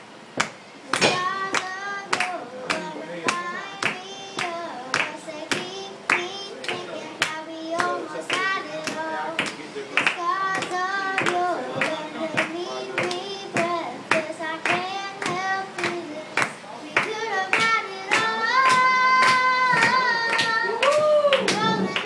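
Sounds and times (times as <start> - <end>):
people clapping along: 0.4 - 22.0
girl singing into a microphone: 0.8 - 22.0.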